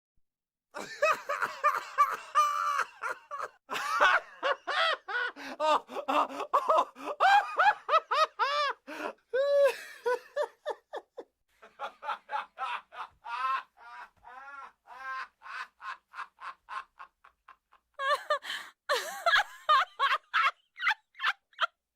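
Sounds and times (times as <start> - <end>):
person laughing out loud: 0.8 - 21.8.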